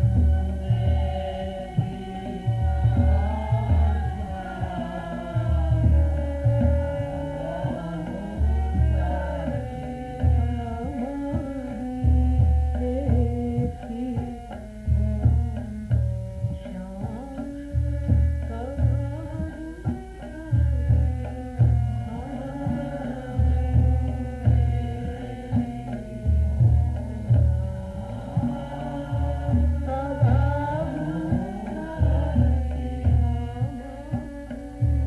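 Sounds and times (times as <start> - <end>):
person singing: 0.0 - 15.4, 18.5 - 26.0, 27.4 - 35.0
hand drum bass strokes: 0.0 - 35.0.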